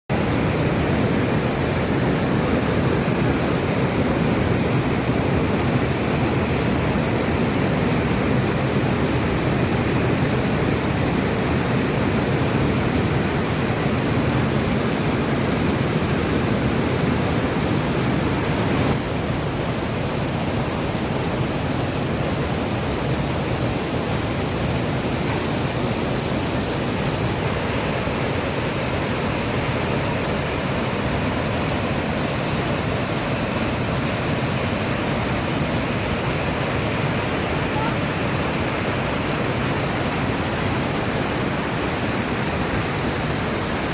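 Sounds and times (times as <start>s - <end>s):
waterfall rushing: 0.1s - 43.9s.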